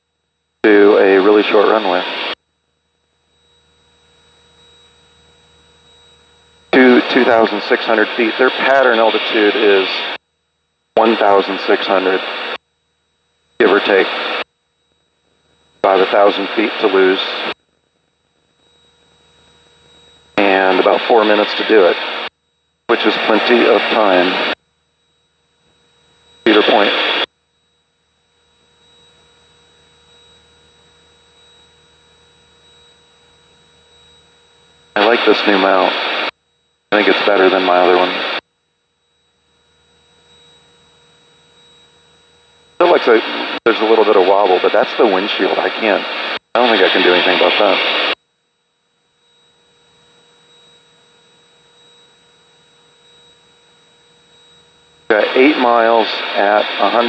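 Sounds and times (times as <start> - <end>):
electrical hum with high whine: 0.0 - 57.0.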